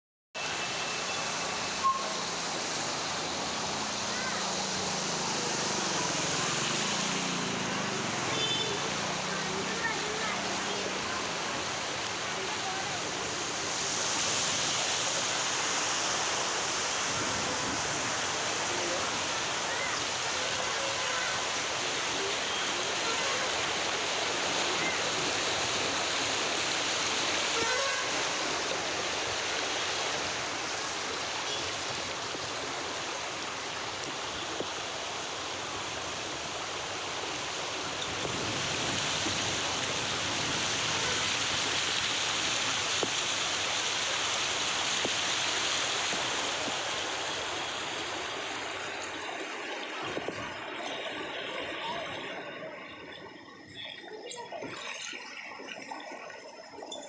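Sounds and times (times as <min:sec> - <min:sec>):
water rushing: 0:00.4 - 0:57.0.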